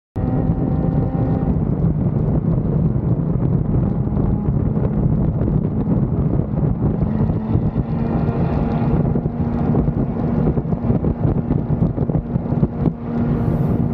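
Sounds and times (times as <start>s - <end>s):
motorcycle engine running: 0.2s - 13.9s
wind buffeting microphone: 0.2s - 13.9s.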